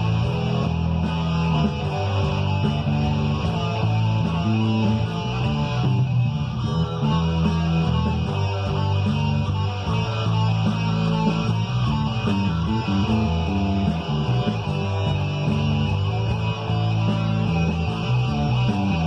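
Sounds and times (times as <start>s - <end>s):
electric guitar playing: 0.0s - 19.0s
rock backing track: 0.0s - 19.0s.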